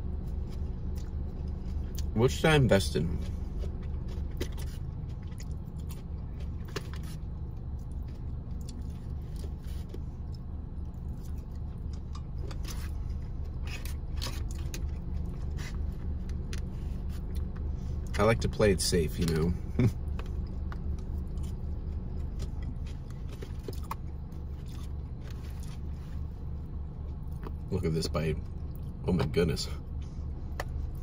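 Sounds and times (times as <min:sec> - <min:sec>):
low hum inside car: 0:00.0 - 0:31.0
person chewing: 0:00.2 - 0:02.1, 0:03.1 - 0:18.2, 0:19.2 - 0:27.7.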